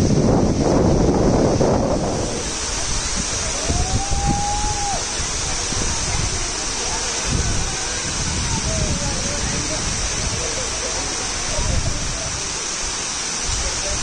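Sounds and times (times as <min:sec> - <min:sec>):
water rushing over spillway: 0:00.0 - 0:14.0
wind buffeting microphone: 0:00.0 - 0:14.0.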